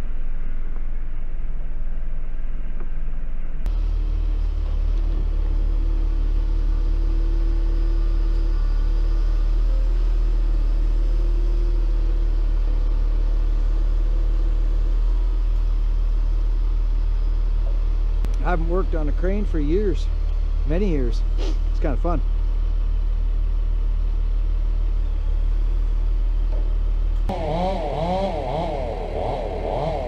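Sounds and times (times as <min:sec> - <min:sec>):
faint hum: 0:00.0 - 0:30.0
truck engine low rumble: 0:00.0 - 0:30.0.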